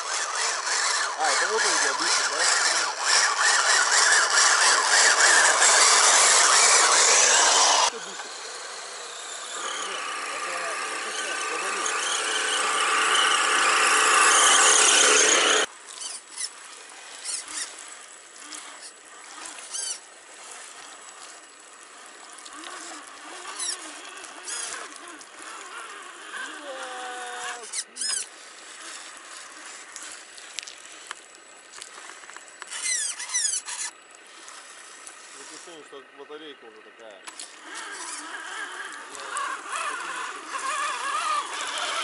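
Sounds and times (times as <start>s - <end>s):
electric motor and gears whining: 0.0s - 42.0s.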